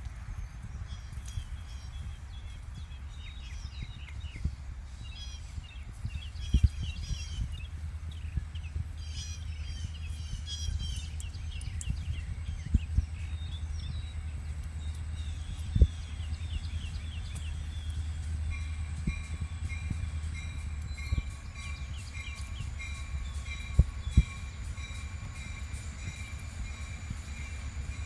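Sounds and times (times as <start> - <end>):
low rumble: 0.0 - 28.0
small birds chirping: 0.4 - 28.0.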